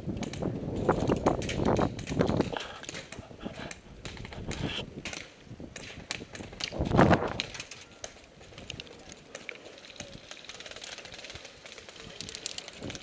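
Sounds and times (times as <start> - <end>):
sharp clicks and ticks: 0.2 - 13.0.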